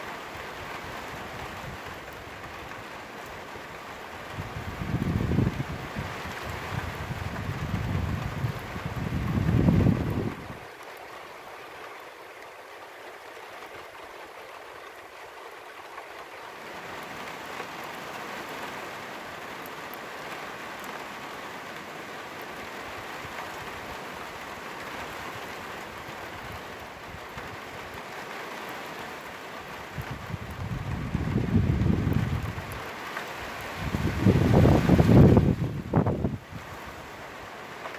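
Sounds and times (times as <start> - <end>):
rain on a flat roof: 0.0 - 37.9.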